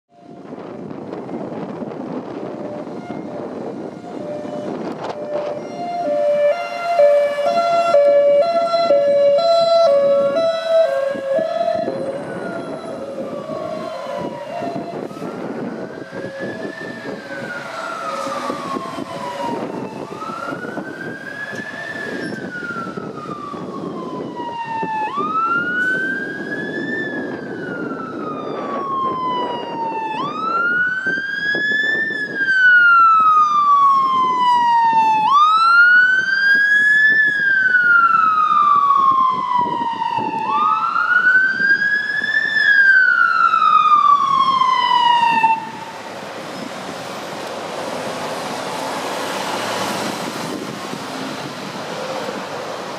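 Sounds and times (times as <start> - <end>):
ambulance siren wailing: 0.1 - 52.9
traffic rumbling: 0.2 - 52.9.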